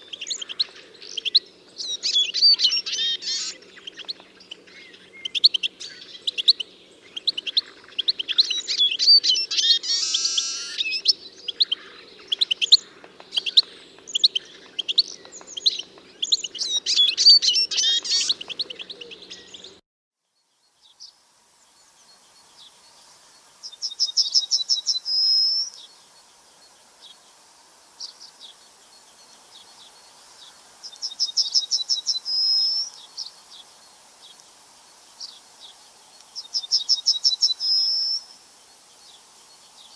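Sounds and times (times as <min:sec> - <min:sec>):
birds chirping and trilling: 0:00.0 - 0:19.8, 0:20.5 - 0:39.9.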